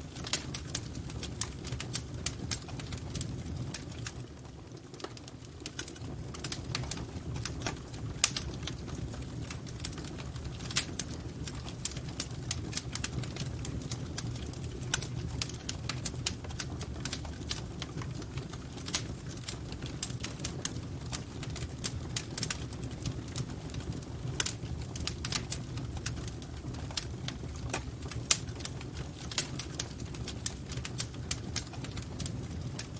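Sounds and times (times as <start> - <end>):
low rumble of flames: 0.0 - 32.9
wood fire crackling: 0.0 - 32.9.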